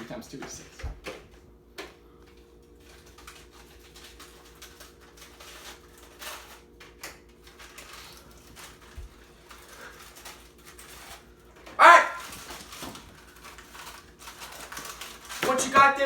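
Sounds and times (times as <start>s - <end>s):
plastic sleeve crinkling: 2.7s - 16.0s.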